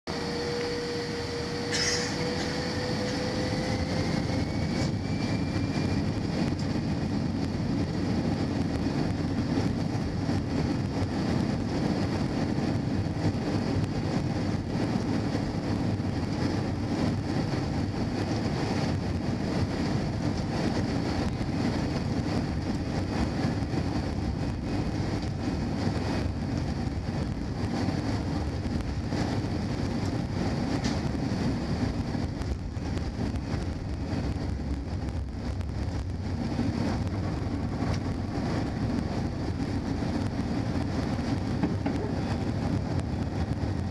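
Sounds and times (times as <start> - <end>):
jet engine whine: 0.0 - 43.9
airliner cabin rush: 0.1 - 43.9.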